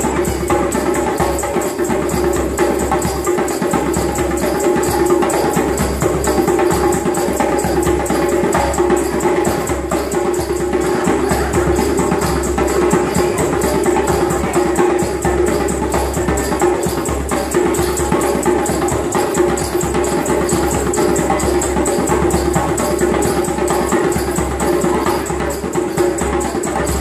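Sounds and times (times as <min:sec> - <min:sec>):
hand drums playing a beat: 0:00.0 - 0:27.0.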